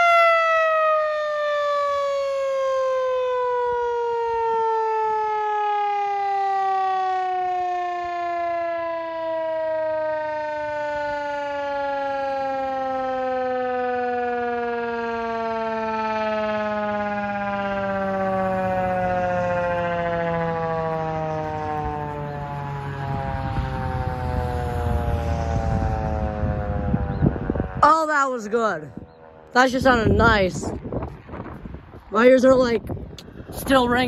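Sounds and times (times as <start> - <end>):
warning siren winding down: 0.0 - 34.0.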